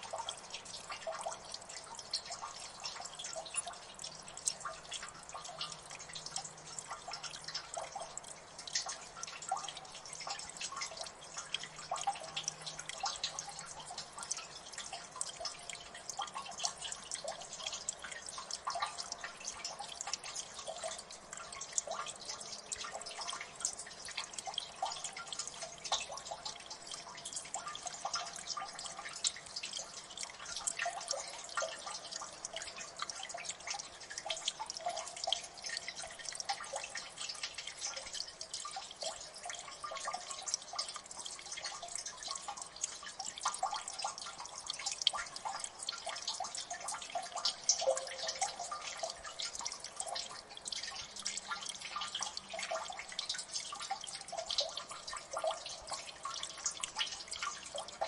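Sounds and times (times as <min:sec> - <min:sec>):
water drops plinking: 0:00.0 - 0:58.0.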